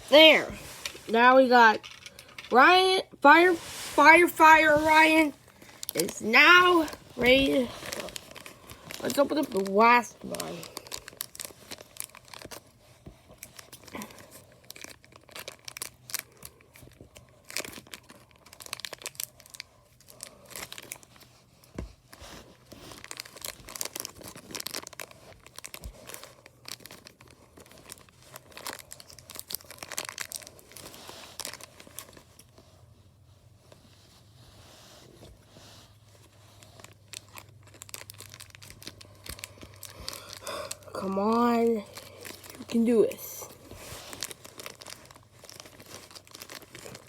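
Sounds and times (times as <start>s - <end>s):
packaging rustling and tearing: 0.0s - 2.6s, 3.3s - 47.0s.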